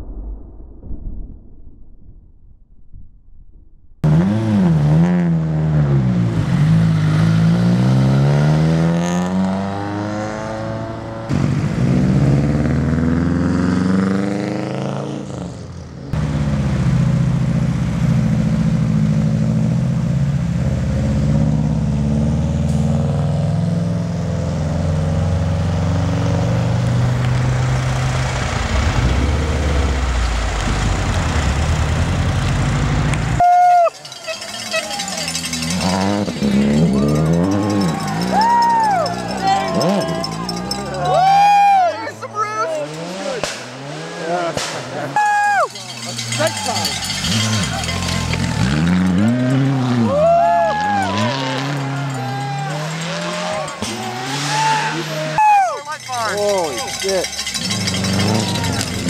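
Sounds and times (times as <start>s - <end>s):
rally car engines revving: 4.0s - 59.0s.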